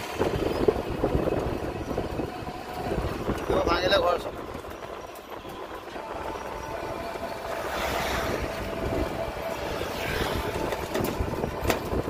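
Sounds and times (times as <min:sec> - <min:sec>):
vehicle road noise: 0:00.0 - 0:12.0
wind buffeting microphone: 0:00.0 - 0:12.0.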